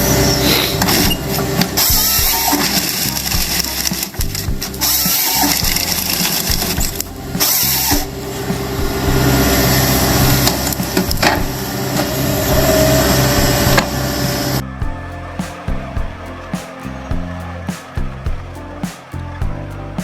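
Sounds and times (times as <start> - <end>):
heavy machinery running: 0.0 - 19.4.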